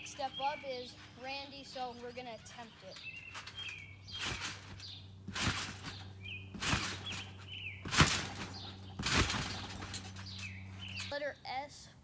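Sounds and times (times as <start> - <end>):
small birds chirping: 0.0 - 11.9
trampoline thudding: 1.4 - 11.2.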